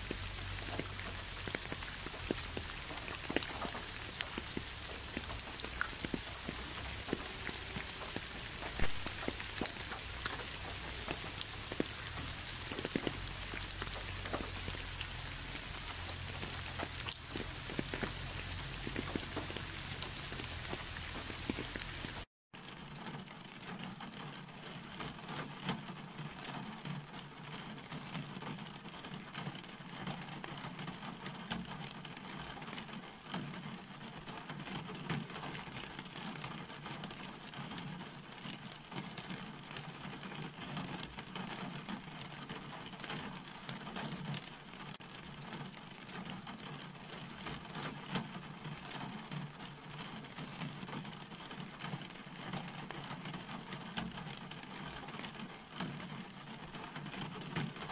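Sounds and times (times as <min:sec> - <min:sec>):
raindrops ticking: 0:00.0 - 0:57.9
steady rain falling: 0:00.0 - 0:57.9.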